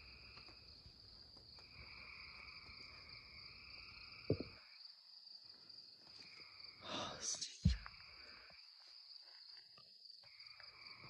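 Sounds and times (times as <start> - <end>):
crickets and frogs chorus: 0.0 - 11.0.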